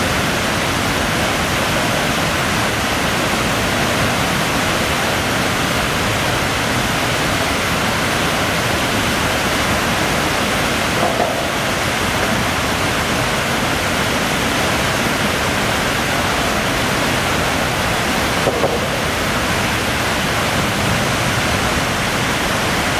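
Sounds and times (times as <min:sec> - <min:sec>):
whitewater churning: 0:00.0 - 0:22.9.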